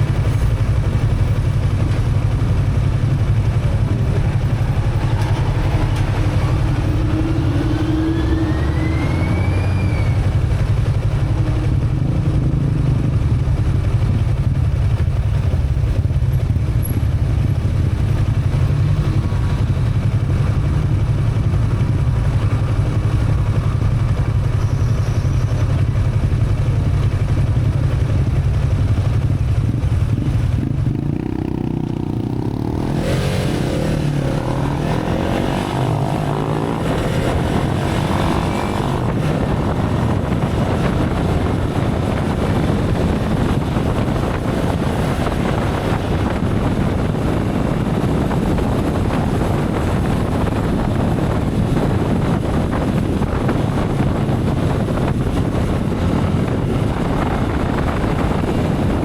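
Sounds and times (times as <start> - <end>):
motorcycle engine humming: 0.0 - 59.0
road noise: 0.0 - 59.0
wind rush: 0.0 - 59.0.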